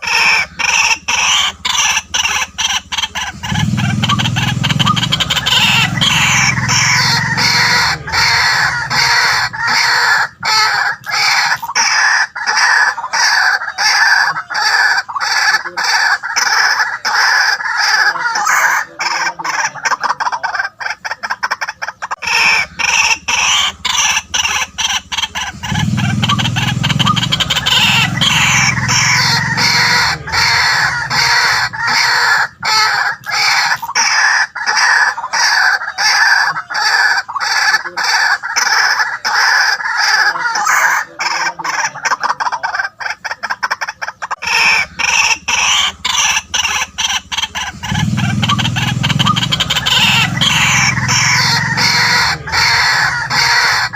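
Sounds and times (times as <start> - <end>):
waterhen croaking calls: 0.0 - 53.9.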